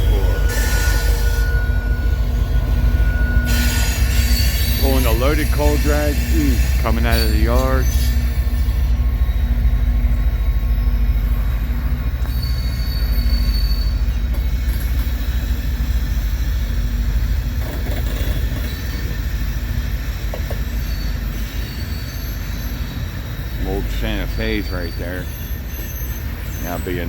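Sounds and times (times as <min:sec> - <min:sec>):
freight train rumbling: 0:00.0 - 0:27.0
wheel squeals: 0:00.0 - 0:27.0.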